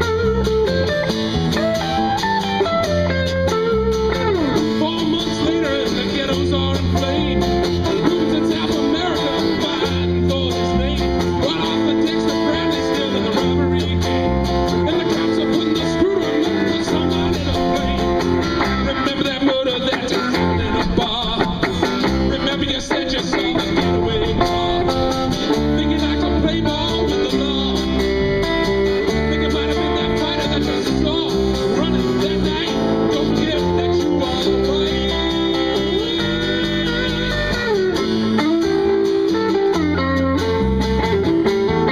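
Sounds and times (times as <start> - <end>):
live band with guitars: 0.0 - 41.9
pulsing bass notes: 0.0 - 41.9.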